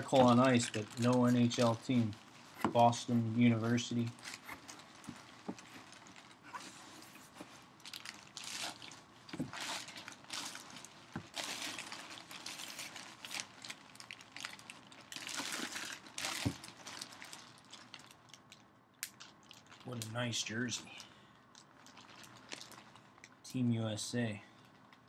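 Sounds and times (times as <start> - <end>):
packaging rustling and crinkling: 0.0 - 23.4.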